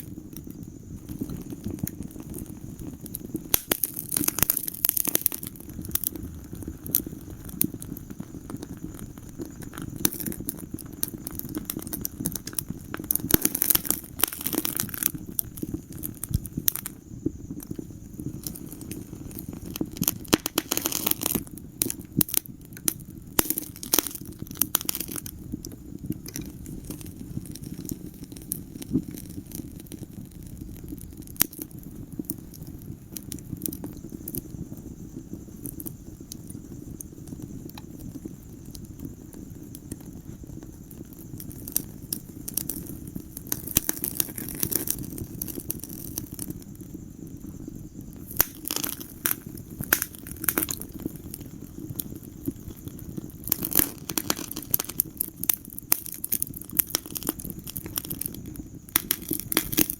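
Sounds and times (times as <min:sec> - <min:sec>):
fire pops and snaps: 0:00.0 - 0:59.9
low rumble of flames: 0:00.0 - 0:59.9.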